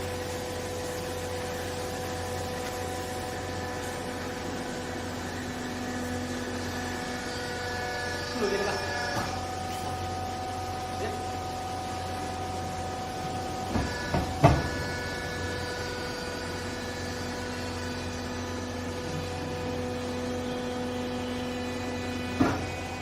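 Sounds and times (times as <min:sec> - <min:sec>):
baler motor and pump humming: 0:00.0 - 0:23.0.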